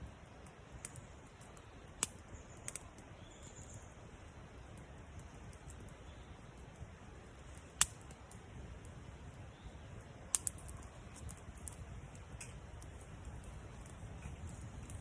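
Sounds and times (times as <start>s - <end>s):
campfire wood crackling: 0.0s - 15.0s
sharp pops from fire: 0.0s - 15.0s.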